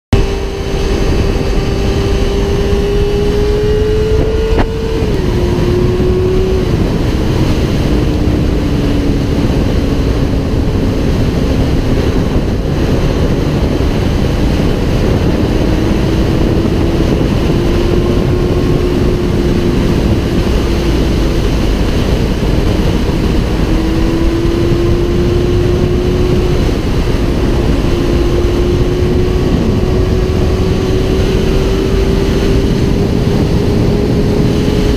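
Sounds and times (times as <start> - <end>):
heavy wind rush: 0.1 - 34.9
motorcycle engine revving high: 0.1 - 34.9.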